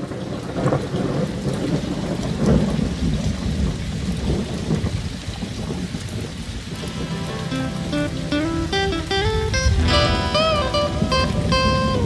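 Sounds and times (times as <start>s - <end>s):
rolling thunder rumble: 0.0s - 12.0s
steady rain hiss: 0.0s - 12.0s.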